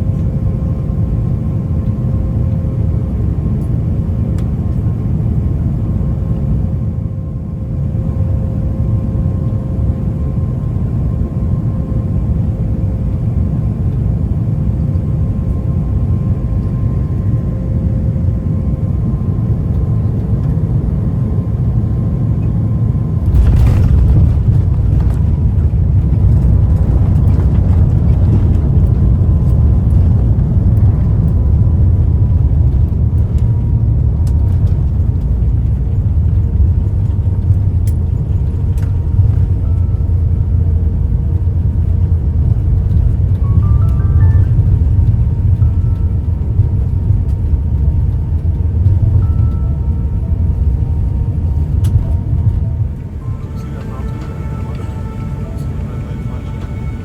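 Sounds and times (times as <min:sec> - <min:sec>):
aircraft cabin rumble: 0:00.0 - 0:57.0
faint high engine tone: 0:00.0 - 0:57.0.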